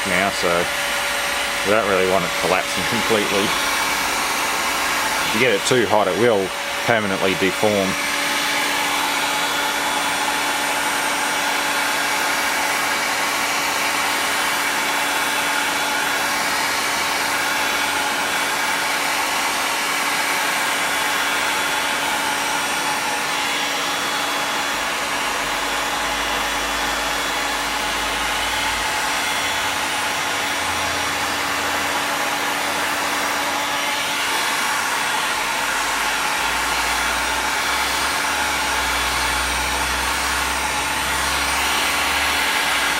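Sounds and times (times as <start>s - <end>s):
heat gun running: 0.0s - 42.9s.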